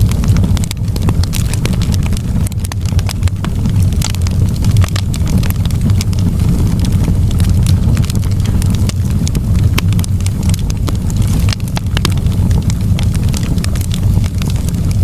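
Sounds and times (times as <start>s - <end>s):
fire crackling: 0.0s - 15.0s
low rumble of flames: 0.0s - 15.0s.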